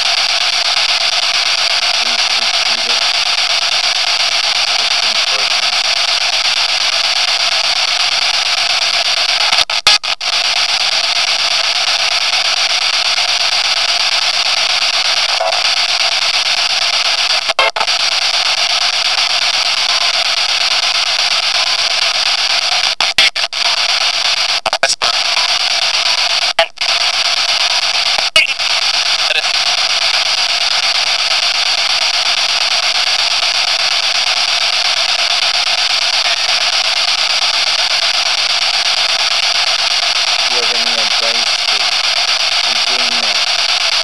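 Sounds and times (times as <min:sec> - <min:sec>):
loud static hiss: 0:00.0 - 0:44.0.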